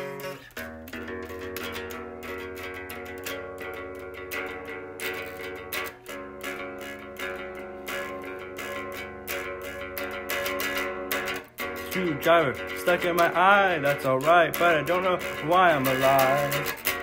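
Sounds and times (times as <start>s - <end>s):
bass guitar: 0.0s - 17.0s
electric guitar strumming chords: 0.0s - 17.0s.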